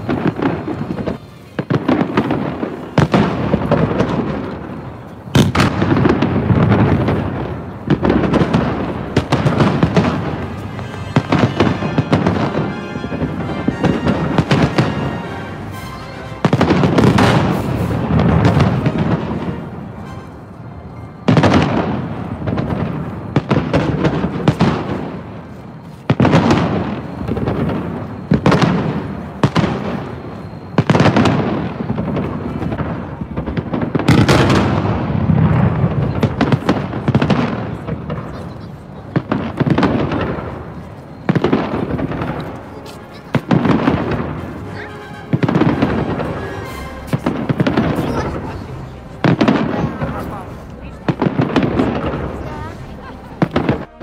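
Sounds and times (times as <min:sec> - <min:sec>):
small fireworks pops: 0:00.0 - 0:15.3, 0:16.4 - 0:20.3, 0:21.2 - 0:54.0
fireworks crackling: 0:00.0 - 0:54.0
fireworks shell bursts booming: 0:00.0 - 0:54.0.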